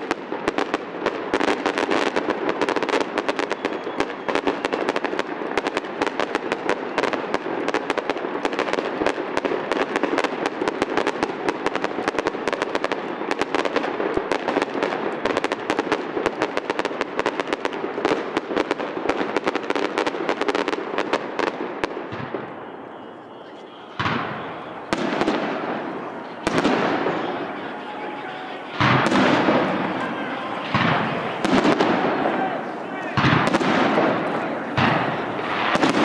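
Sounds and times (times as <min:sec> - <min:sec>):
fireworks crackling and popping: 0:00.0 - 0:36.0.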